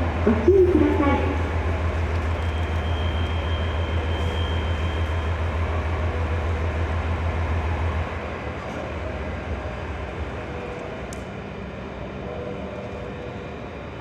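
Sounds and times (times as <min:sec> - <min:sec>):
railcar engine humming: 0:00.0 - 0:14.0.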